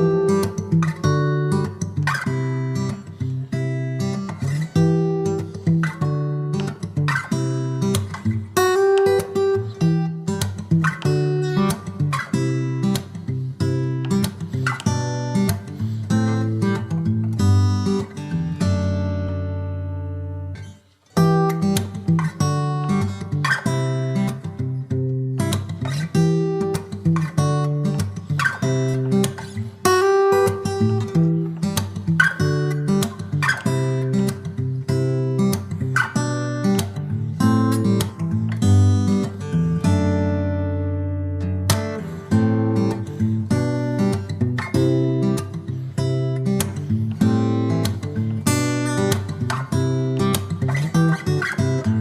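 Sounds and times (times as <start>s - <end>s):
strummed acoustic guitar: 0.0s - 52.0s.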